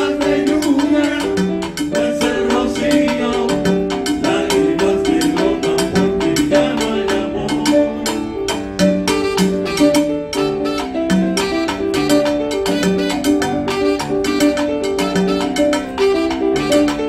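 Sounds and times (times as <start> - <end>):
hand drums beat: 0.0 - 17.0
piano pattern: 0.0 - 17.0
salsa band music: 0.0 - 17.0.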